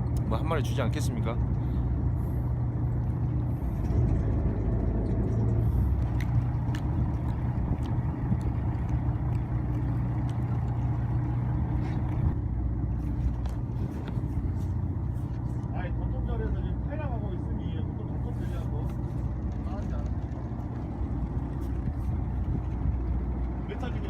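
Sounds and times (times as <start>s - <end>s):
boat engine drone: 0.0s - 24.0s.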